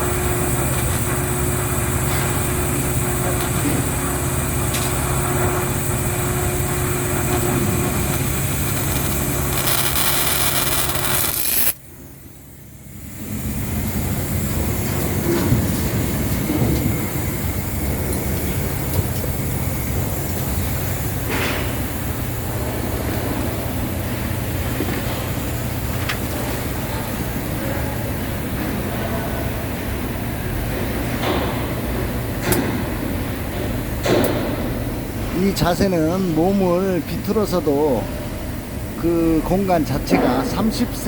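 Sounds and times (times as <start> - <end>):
power plant machinery hum: 0.0 - 41.0.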